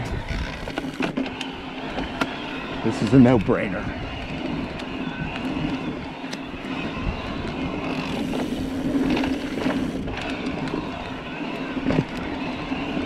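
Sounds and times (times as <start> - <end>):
bike clicks and rattles: 0.0 - 13.0
electric bike drone: 0.0 - 13.0
tyre noise on dirt: 0.0 - 13.0.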